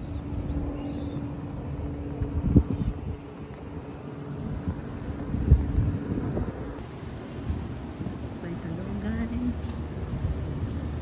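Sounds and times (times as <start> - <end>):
low hum: 0.0 - 11.0
wind rumbling on microphone: 0.0 - 11.0.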